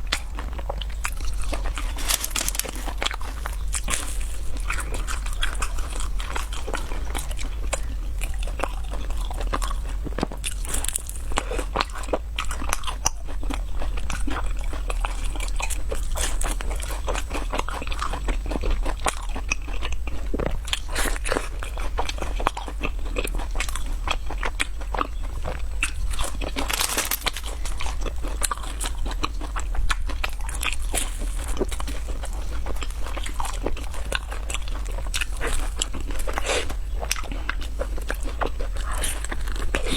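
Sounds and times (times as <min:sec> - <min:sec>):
steady low hum: 0:00.0 - 0:19.3, 0:19.9 - 0:39.9
crunching fried snacks: 0:00.0 - 0:39.9.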